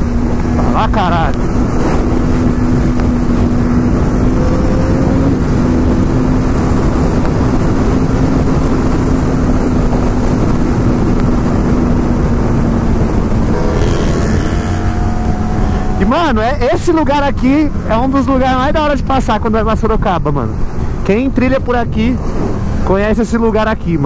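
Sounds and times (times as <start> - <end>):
motorcycle engine cruising: 0.0 - 24.0
wind rush on microphone: 0.0 - 24.0.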